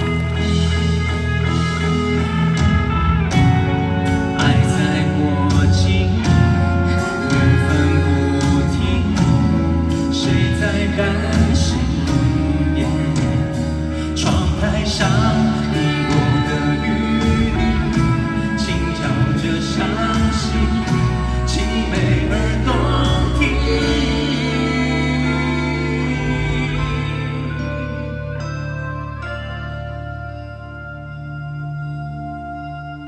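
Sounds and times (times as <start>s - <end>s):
slow pop ballad with singing: 0.0s - 33.0s.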